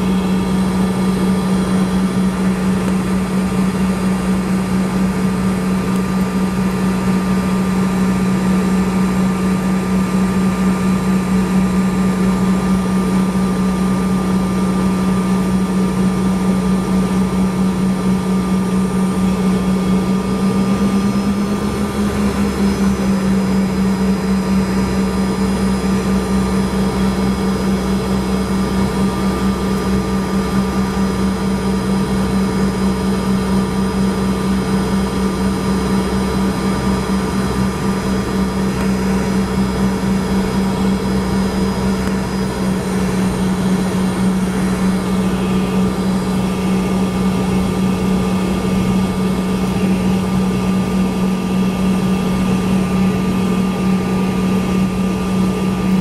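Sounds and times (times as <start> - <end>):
deep engine rumble: 0.0 - 56.0
jet engines idling hum: 0.0 - 56.0.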